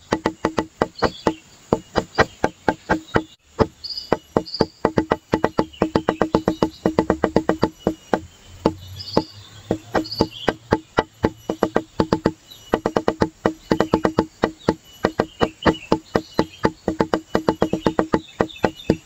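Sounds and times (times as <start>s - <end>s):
fast pitched wood-block knocks: 0.0s - 19.0s.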